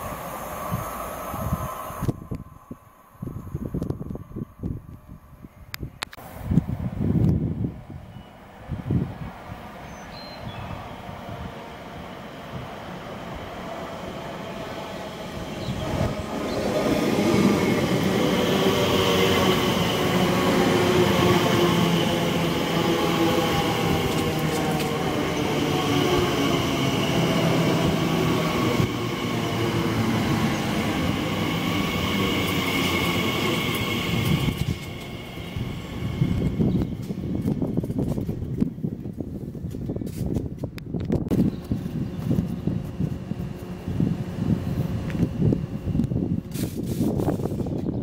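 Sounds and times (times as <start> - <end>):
electric train whine and hum: 0.0 - 48.0.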